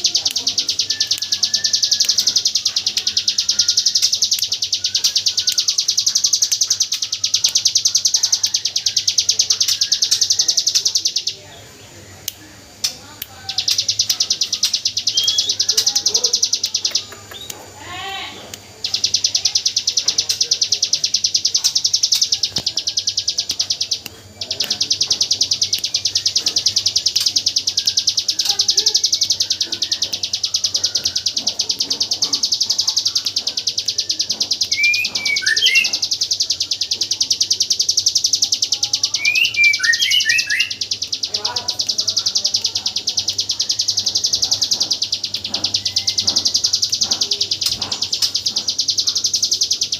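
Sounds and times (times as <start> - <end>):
lower bird chirps: 0.0 - 49.9.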